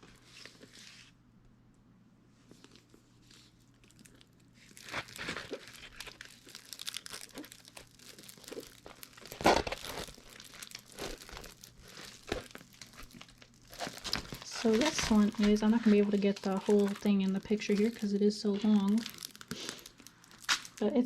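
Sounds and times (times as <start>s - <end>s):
packaging crinkling: 2.5s - 21.0s.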